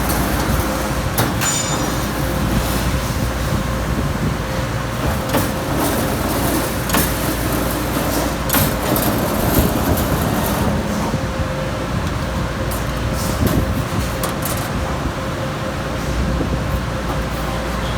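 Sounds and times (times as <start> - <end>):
punch machine humming: 0.0 - 17.7
faint machine whine: 0.0 - 17.9.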